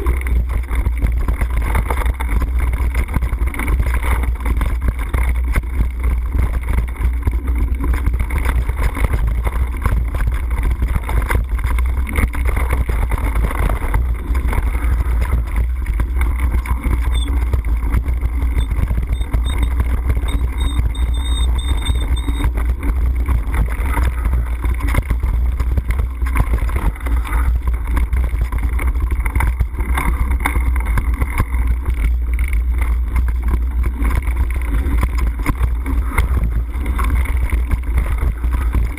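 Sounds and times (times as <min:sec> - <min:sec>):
bike tyres rattling over dirt: 0:00.0 - 0:38.9
wind rumbling over microphone: 0:00.0 - 0:38.9.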